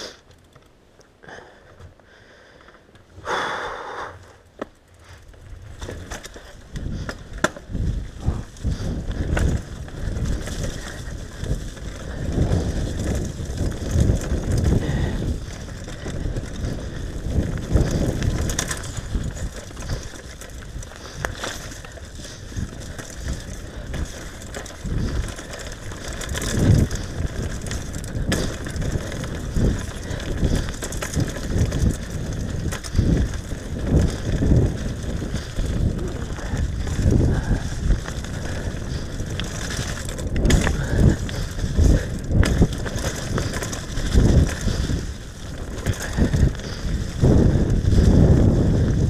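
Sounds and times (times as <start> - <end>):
mountain bike rattling over bumps: 0.0 - 3.3, 4.2 - 49.0.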